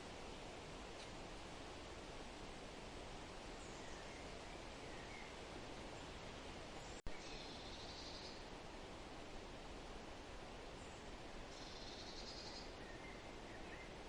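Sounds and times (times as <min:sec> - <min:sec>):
steady forest hiss: 0:00.0 - 0:14.0.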